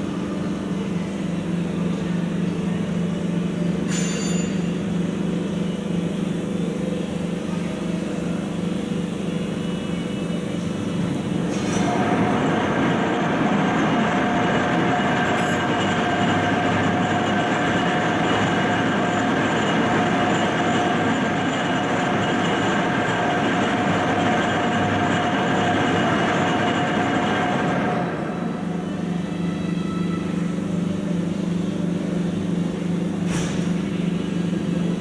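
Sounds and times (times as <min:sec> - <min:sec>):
train running on rails: 0:00.0 - 0:35.0.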